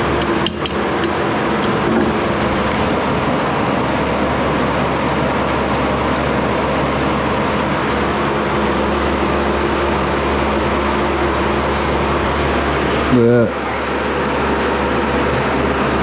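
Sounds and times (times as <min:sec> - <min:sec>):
machine whirring and humming: 0:00.0 - 0:16.0.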